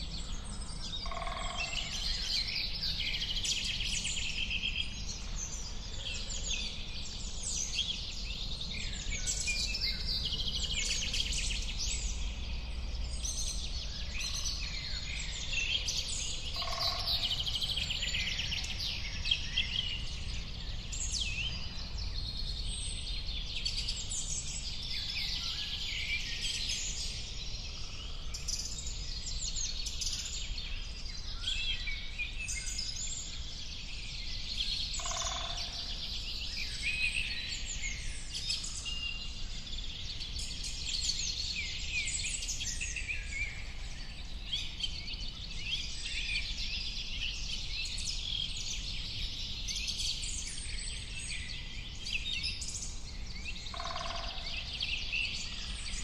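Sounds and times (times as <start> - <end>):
dense bird chorus: 0.0 - 56.0
low background noise: 0.0 - 56.0.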